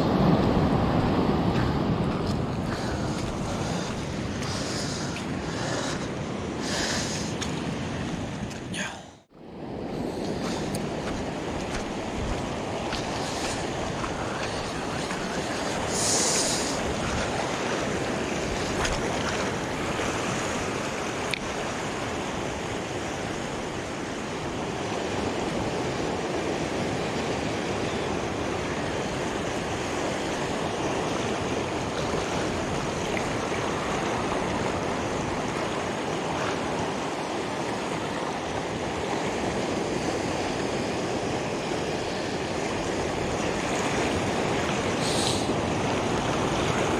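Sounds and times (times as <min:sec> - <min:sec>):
waves washing over rocks: 0:00.0 - 0:46.9.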